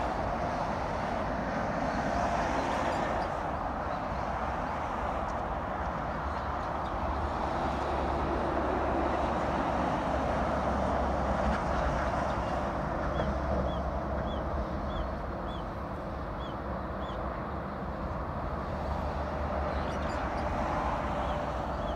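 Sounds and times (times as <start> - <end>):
traffic rushing: 0.0 - 21.9.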